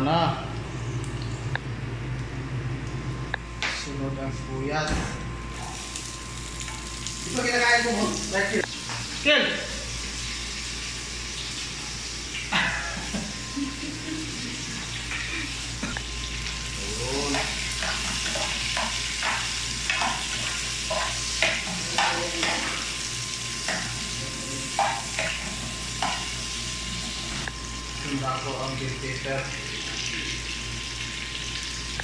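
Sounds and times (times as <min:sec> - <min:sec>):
onions sizzling in oil: 0:05.5 - 0:32.0.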